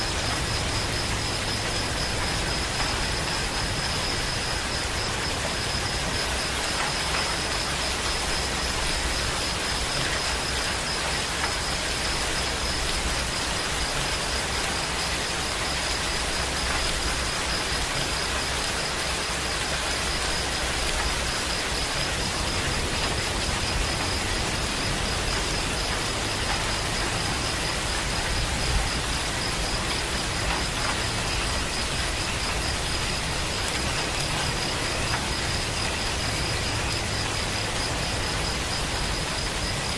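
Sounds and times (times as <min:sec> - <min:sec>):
steady rain falling: 0:00.0 - 0:39.9
high-pitched insect trill: 0:00.1 - 0:39.9.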